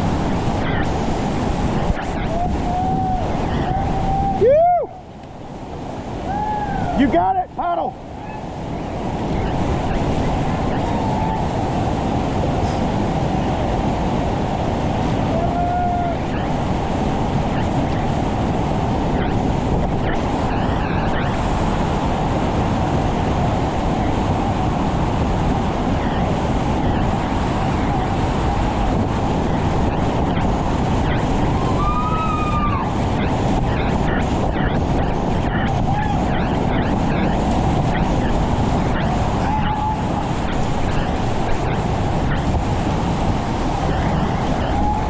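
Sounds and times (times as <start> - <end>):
whitewater rapids rushing: 0.0 - 45.0.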